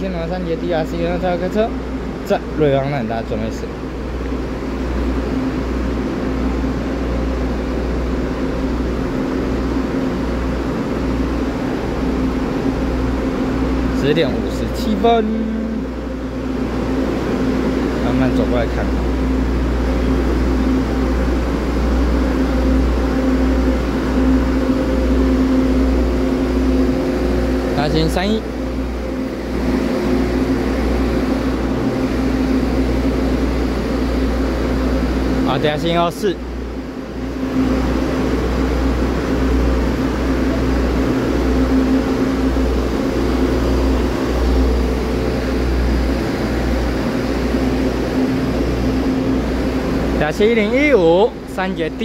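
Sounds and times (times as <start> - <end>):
diesel railcar engines droning: 0.0 - 52.0.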